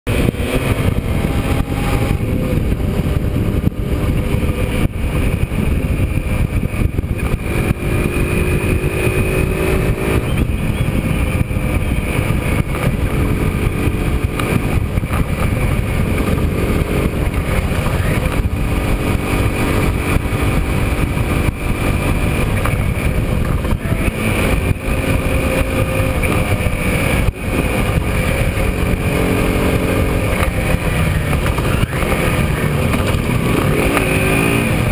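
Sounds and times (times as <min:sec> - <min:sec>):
racing motorcycle engines revving: 0:00.1 - 0:34.9.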